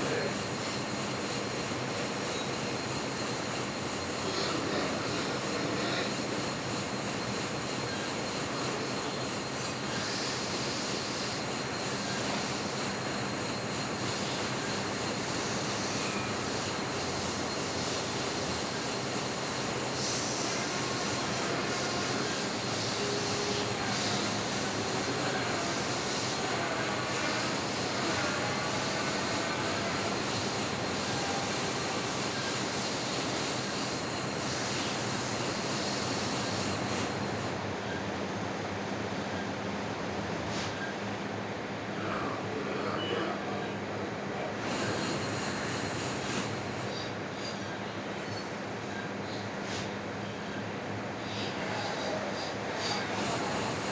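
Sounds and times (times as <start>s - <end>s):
metal lathe running: 0.0s - 37.6s, 44.6s - 47.6s, 51.2s - 53.9s.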